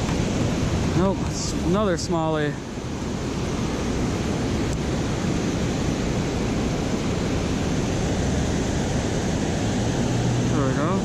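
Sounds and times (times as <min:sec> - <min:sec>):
water roaring over spillway: 0:00.0 - 0:11.0.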